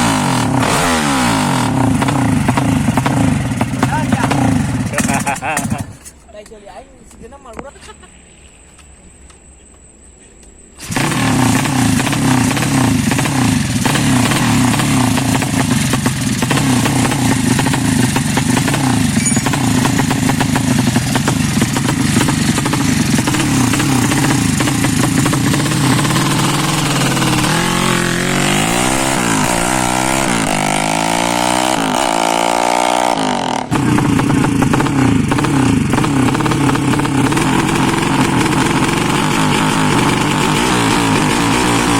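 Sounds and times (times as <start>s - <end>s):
motorcycle engine revving: 0.0s - 6.1s, 10.8s - 41.9s.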